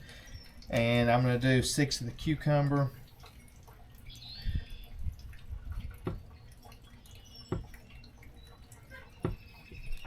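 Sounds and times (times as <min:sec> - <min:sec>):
water dripping: 0:00.0 - 0:10.0.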